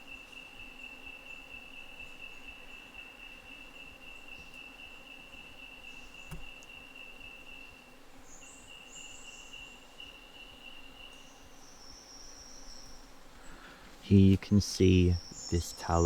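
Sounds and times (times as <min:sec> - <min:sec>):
hissy insect calls: 0:00.0 - 0:16.0
insect buzzing trill: 0:00.0 - 0:16.0.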